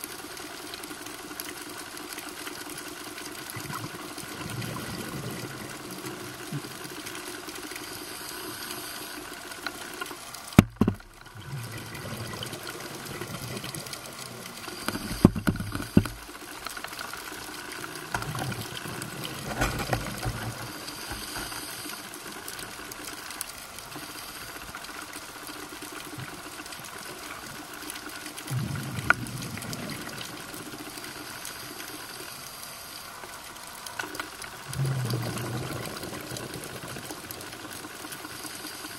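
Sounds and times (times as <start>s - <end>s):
underwater hiss: 3.5s - 10.3s, 11.4s - 27.6s, 28.5s - 38.9s.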